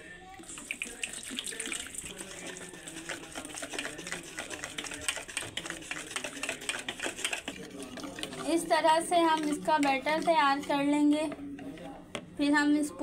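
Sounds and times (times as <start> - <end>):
whisk squelching in batter: 0.0 - 12.0
whisk clicking against bowl: 0.6 - 11.9.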